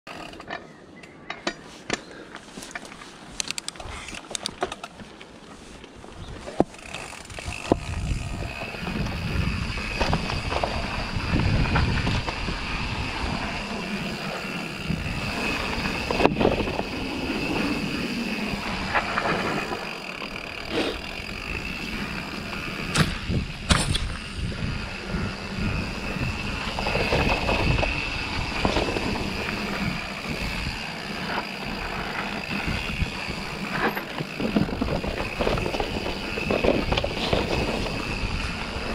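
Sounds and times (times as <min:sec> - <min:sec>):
bike rattling and knocking: 0:06.4 - 0:38.9
tyres rolling over dirt: 0:06.4 - 0:38.9.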